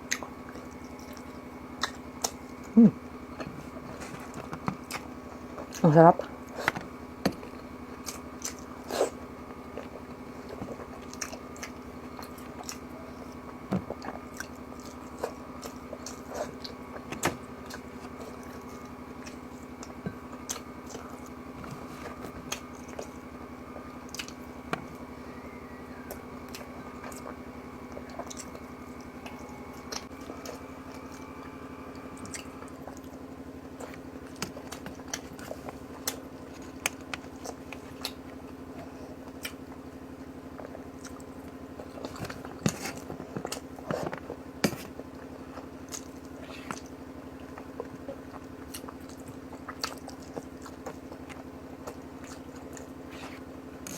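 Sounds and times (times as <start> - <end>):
chewing and smacking: 0.0 - 53.9
steady background hum: 0.0 - 53.9.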